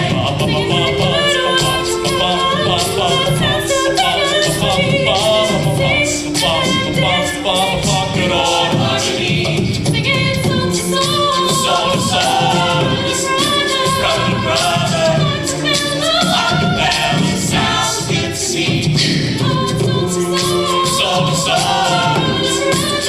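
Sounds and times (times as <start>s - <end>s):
choir singing a cappella: 0.0s - 23.0s
vocal percussion: 0.0s - 23.0s.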